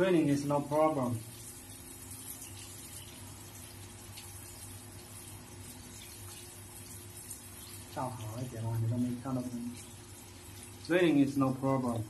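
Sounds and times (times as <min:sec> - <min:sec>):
water falling on light fixture: 0:00.0 - 0:12.0.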